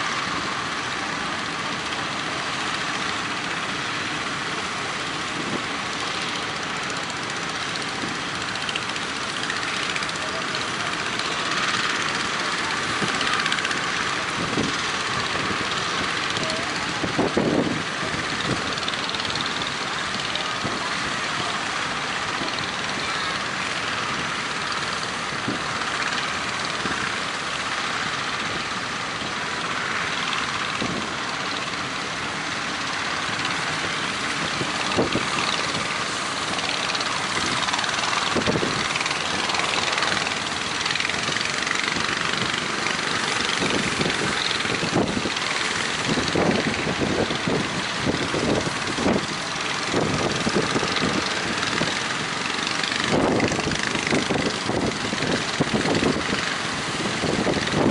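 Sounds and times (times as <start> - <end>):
boat engines running: 0.0 - 57.9
constant hiss: 0.0 - 57.9.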